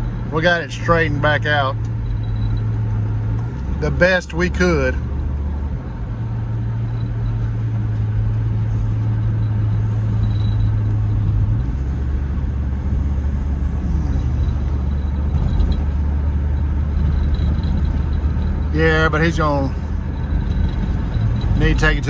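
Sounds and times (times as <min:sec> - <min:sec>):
car engine drone while driving: 0:00.0 - 0:22.0
road noise: 0:00.0 - 0:22.0.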